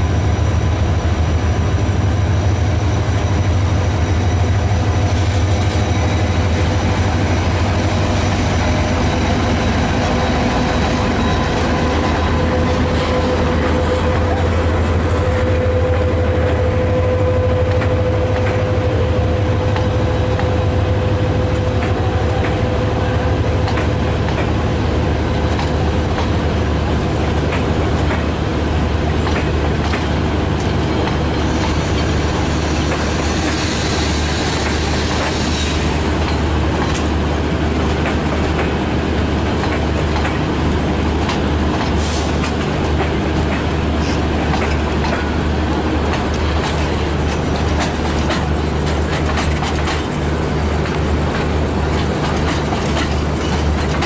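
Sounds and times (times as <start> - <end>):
locomotive humming: 0.0 - 54.0
train wheels clicking on rail joints: 2.9 - 54.0.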